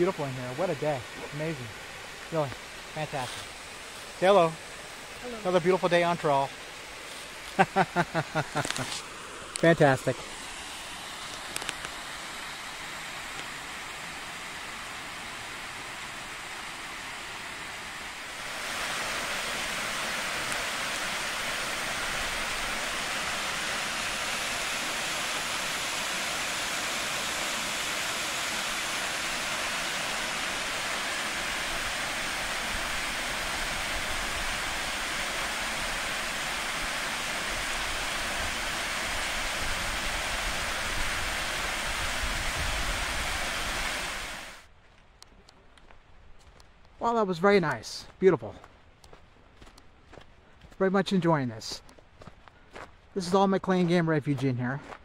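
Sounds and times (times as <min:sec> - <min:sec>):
waterfall rushing water: 0:00.0 - 0:44.7.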